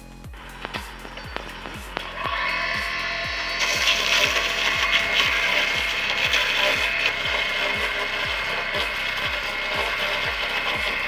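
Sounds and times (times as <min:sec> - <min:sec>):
background music with steady beat: 0:00.0 - 0:11.0
power tool grinding wood: 0:00.5 - 0:11.0.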